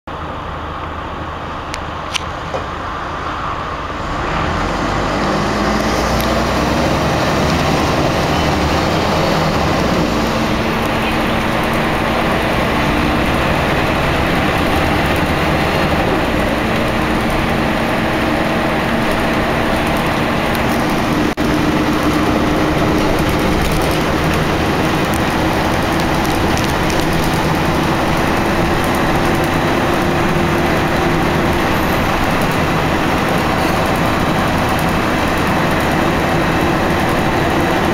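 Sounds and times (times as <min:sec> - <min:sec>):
road and tyre noise: 0:00.0 - 0:37.9
bus diesel engine running: 0:00.1 - 0:37.9.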